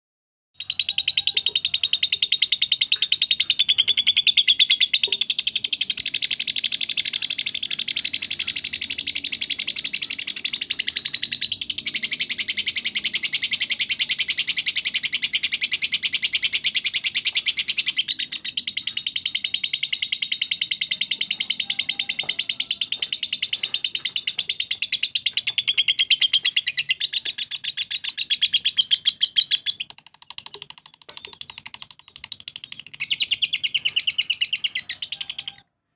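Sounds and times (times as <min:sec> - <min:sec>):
songbird singing rapid high notes: 0:00.6 - 0:35.5.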